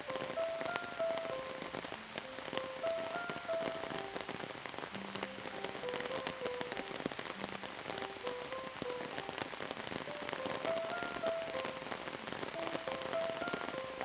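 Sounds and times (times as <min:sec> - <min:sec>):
rain falling: 0:00.0 - 0:14.0
soft slow melody: 0:00.0 - 0:14.0.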